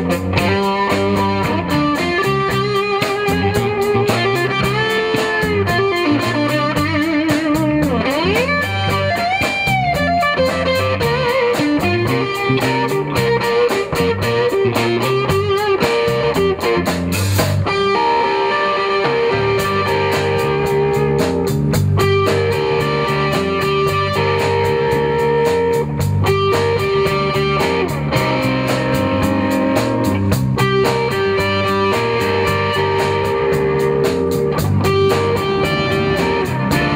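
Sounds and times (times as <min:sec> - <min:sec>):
drum beat: 0:00.0 - 0:18.3, 0:19.2 - 0:36.9
electric guitar lead: 0:00.0 - 0:36.9.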